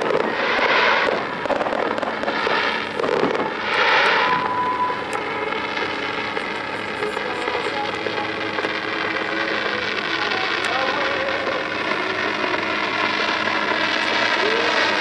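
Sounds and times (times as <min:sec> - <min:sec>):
fireworks hissing and crackling: 0:00.0 - 0:15.0.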